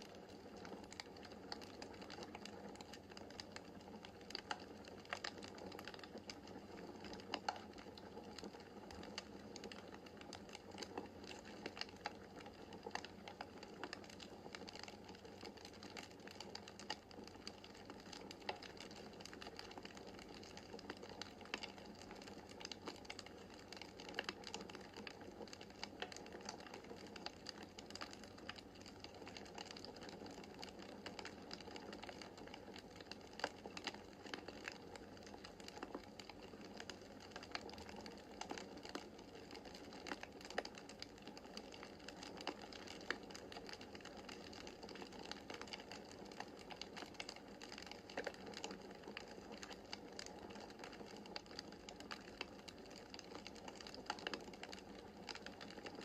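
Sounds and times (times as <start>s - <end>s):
fire snaps and pops: 0.0s - 56.0s.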